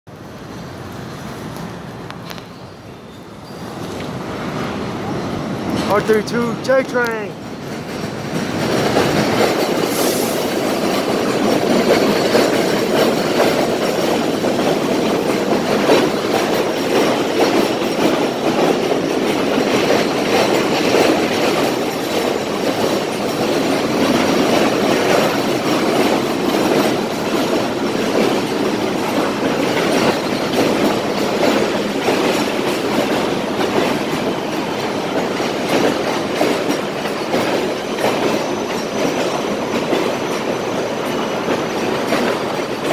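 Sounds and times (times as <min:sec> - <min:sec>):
train wheels on elevated steel track: 0:00.1 - 0:42.9.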